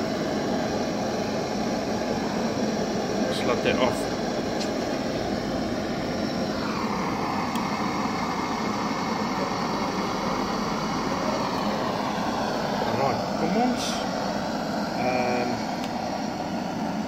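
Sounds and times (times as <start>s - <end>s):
gas blowtorch hissing: 0.0s - 17.0s.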